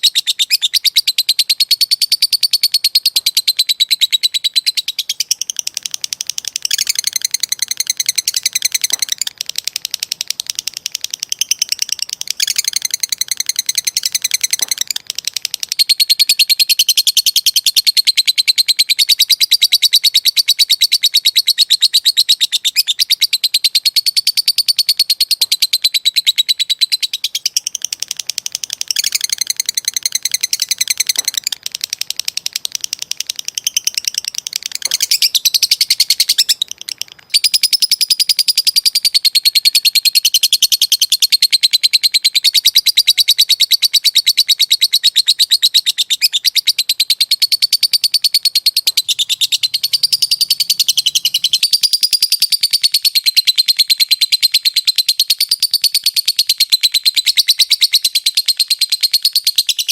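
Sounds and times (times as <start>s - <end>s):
lovebird shrill fast trill: 0.0s - 59.9s.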